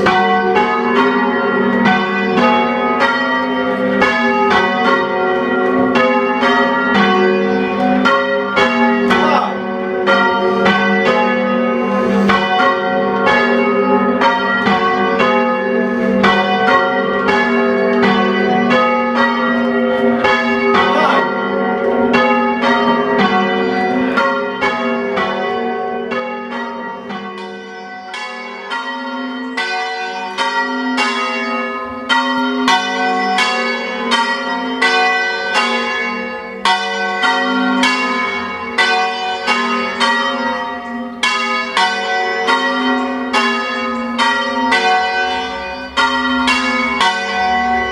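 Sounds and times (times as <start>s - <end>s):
church bells change ringing: 0.0s - 47.9s.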